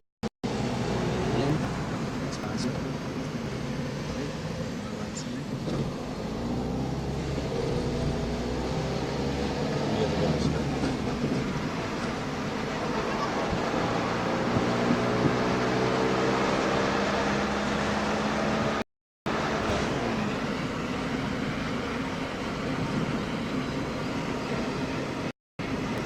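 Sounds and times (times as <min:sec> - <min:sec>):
car engine accelerating: 0:00.4 - 0:23.1
road noise inside car: 0:00.5 - 0:26.0.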